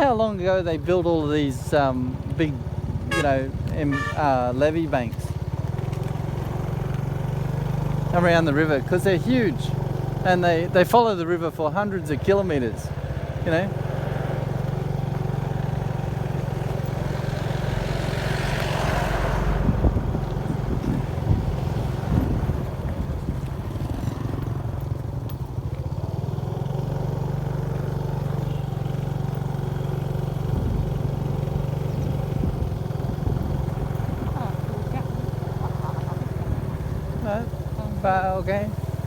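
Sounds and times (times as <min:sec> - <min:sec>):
motorbike engine running: 0:00.0 - 0:39.0.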